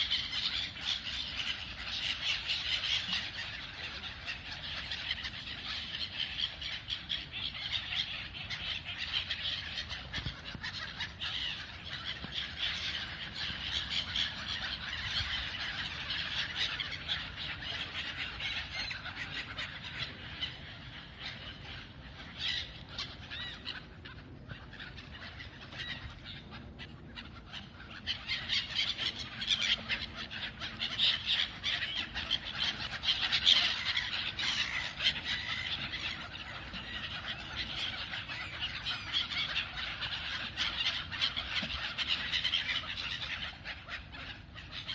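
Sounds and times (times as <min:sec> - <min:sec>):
flock of birds squawking: 0:00.0 - 0:44.9.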